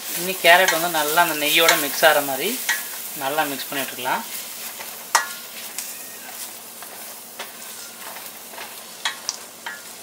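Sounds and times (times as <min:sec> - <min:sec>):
carrots sizzling in pan: 0:00.0 - 0:10.0.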